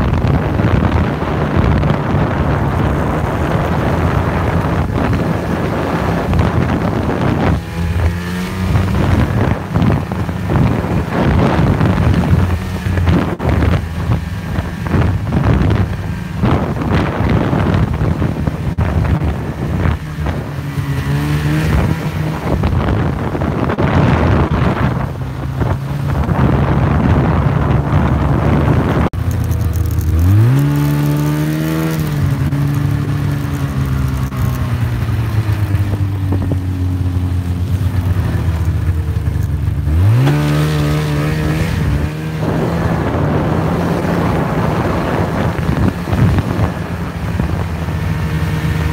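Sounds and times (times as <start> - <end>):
snowmobile engine revving: 0.0 - 48.9
wind noise on microphone: 0.0 - 48.9.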